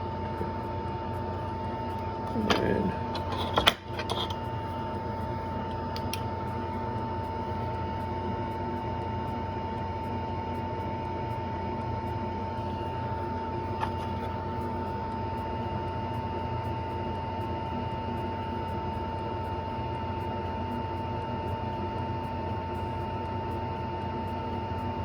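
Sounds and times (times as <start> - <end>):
electric fan whirring: 0.0 - 25.0.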